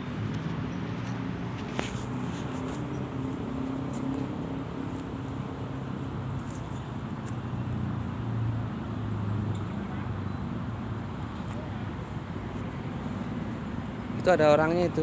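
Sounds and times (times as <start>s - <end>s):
engine hum: 0.0s - 15.0s
outdoor background noise: 0.0s - 15.0s.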